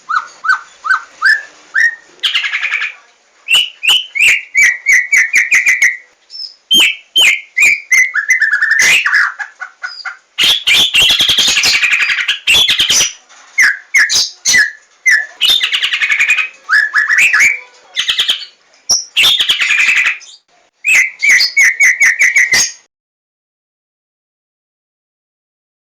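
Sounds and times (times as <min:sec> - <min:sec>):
bird singing: 0:00.0 - 0:22.8.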